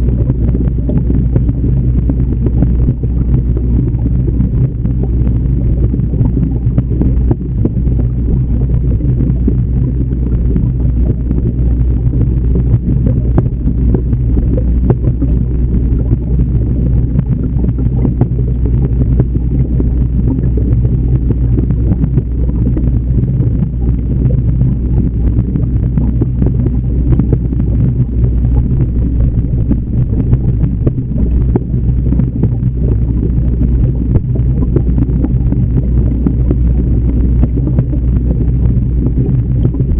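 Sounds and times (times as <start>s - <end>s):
underwater aquarium rumble and hum: 0.0s - 39.9s.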